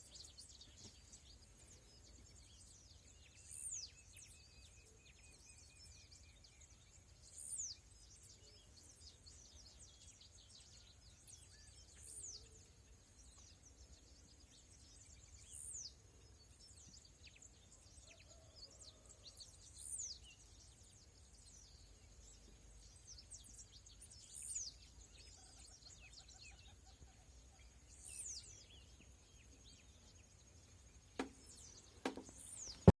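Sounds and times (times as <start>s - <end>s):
faint bird chirps: 0.0s - 33.0s.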